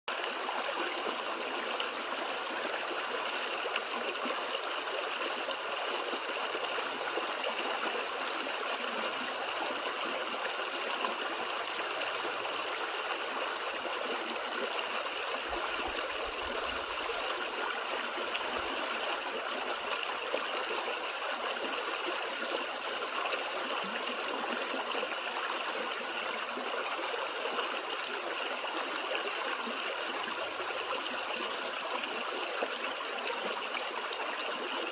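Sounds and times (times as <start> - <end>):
creek running over rocks: 0.1 - 34.9.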